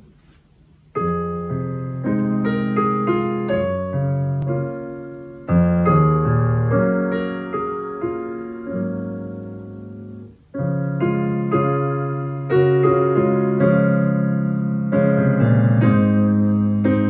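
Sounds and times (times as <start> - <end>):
solo piano chords: 0.9 - 17.0.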